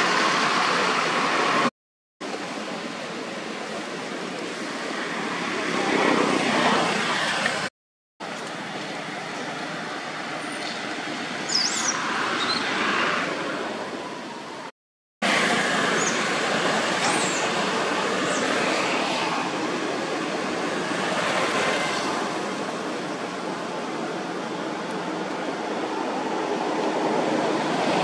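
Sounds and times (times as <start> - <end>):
rushing outdoor background noise: 0.0 - 28.0.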